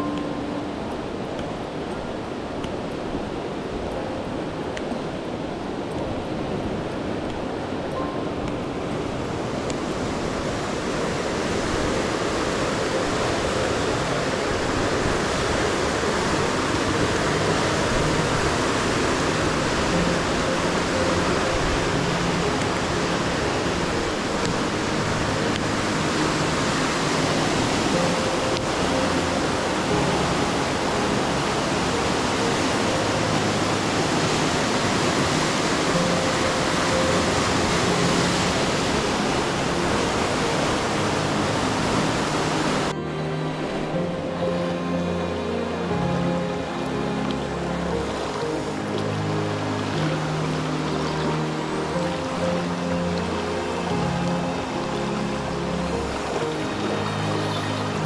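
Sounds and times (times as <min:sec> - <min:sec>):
faint music: 0:00.0 - 0:58.0
river rushing over rocks: 0:00.0 - 0:58.0.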